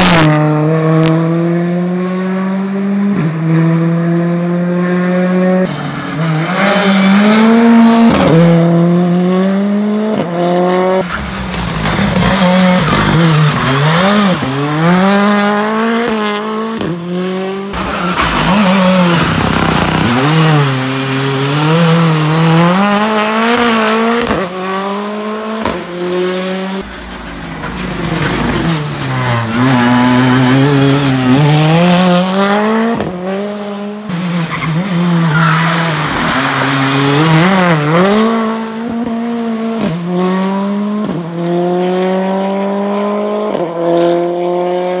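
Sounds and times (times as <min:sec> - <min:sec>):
rally car engine revving: 0:00.0 - 0:45.0.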